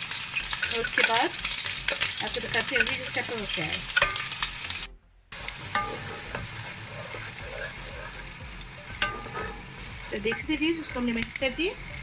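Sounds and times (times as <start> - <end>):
paste sizzling in hot pan: 0.0 - 12.0.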